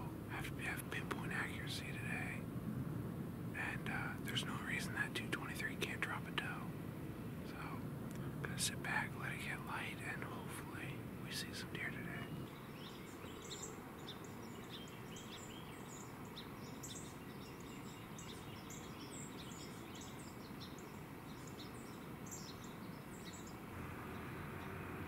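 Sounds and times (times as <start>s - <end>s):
small birds chirping: 0.0s - 2.4s, 3.6s - 25.0s
faint background noise: 0.0s - 25.0s.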